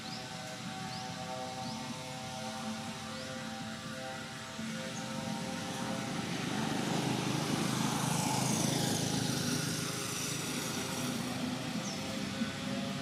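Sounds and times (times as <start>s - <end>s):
passing engine: 0.0s - 13.0s.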